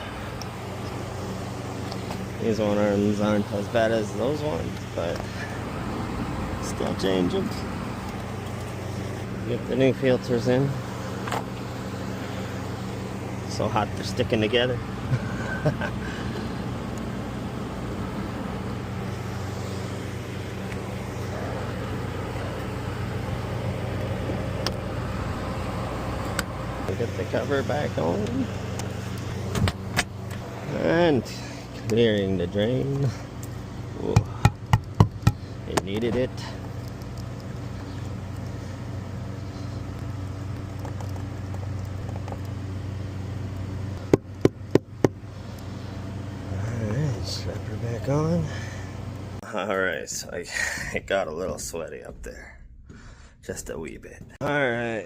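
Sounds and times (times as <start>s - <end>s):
hvac equipment humming: 0.0s - 55.0s.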